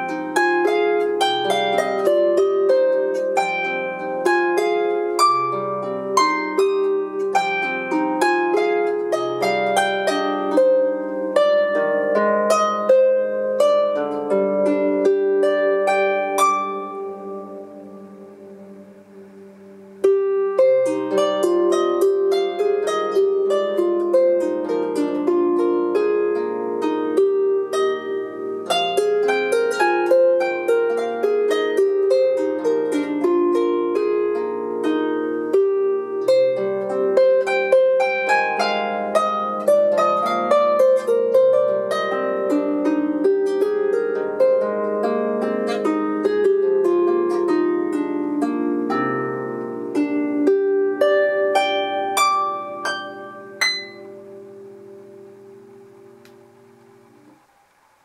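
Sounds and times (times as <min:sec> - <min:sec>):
harp plucked melody: 0:00.0 - 0:58.0.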